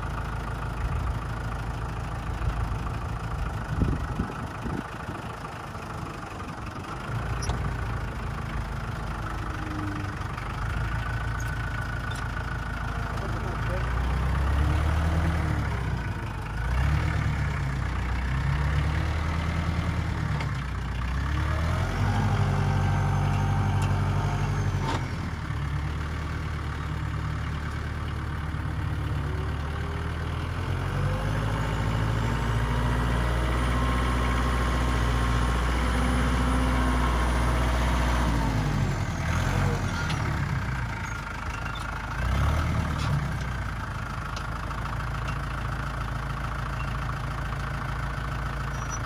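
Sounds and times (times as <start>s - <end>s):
tractor engine revving: 0.0s - 49.0s.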